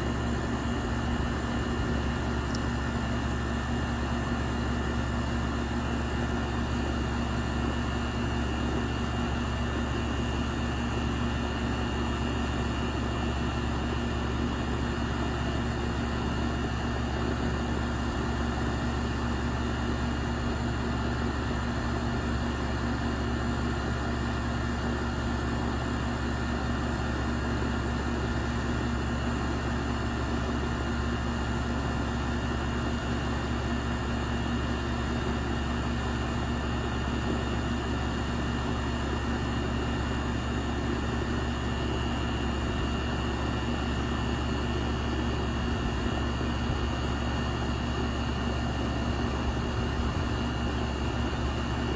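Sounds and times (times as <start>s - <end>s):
air conditioner unit humming: 0.0s - 51.9s.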